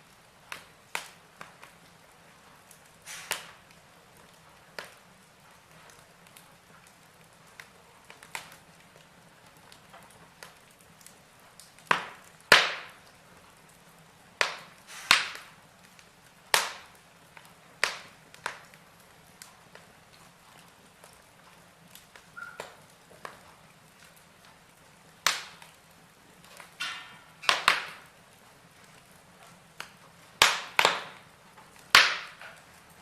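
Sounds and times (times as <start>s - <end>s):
logs crackling in fireplace: 0.0s - 33.0s
sharp pops and snaps of fire: 0.0s - 33.0s.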